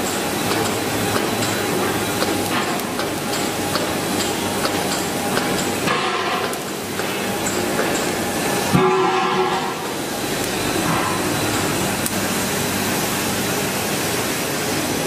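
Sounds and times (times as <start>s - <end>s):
granulator machine noise: 0.0s - 15.0s.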